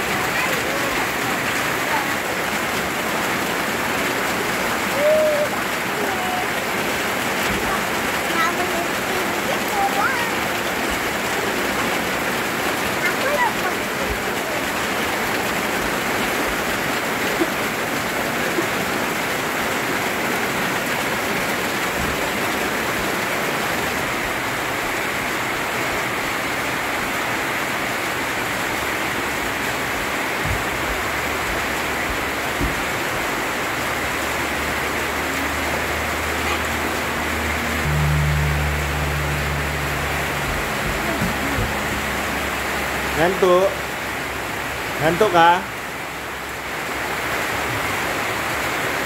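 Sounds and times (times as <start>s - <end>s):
heavy rain: 0.0s - 49.0s.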